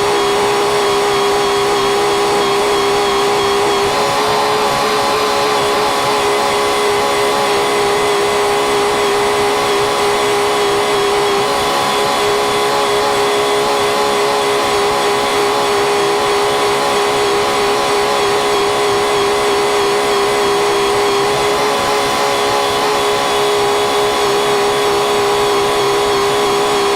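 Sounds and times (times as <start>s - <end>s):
farm machinery engine drone: 0.0s - 26.9s.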